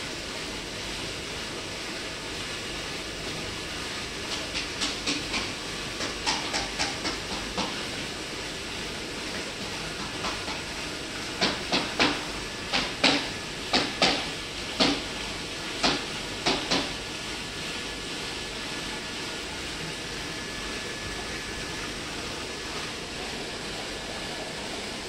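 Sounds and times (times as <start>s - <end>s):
water rushing through drum filter: 0.0s - 25.0s.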